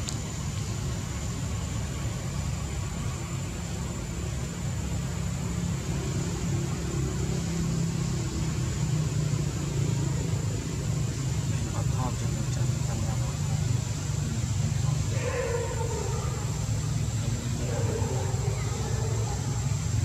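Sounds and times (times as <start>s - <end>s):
low rumble of vehicle engine: 0.0s - 20.0s.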